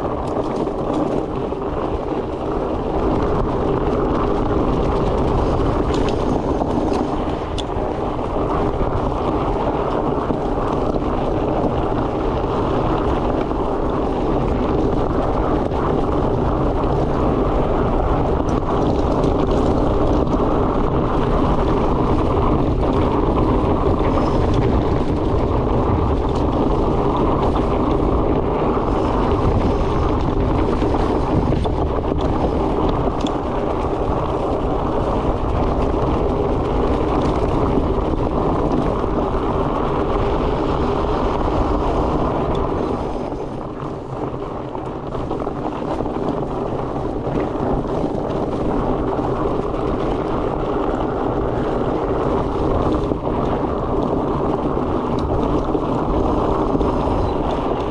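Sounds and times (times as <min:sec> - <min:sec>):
bike tyres rolling on trail: 0:00.0 - 0:57.9
wind on microphone: 0:00.0 - 0:57.9.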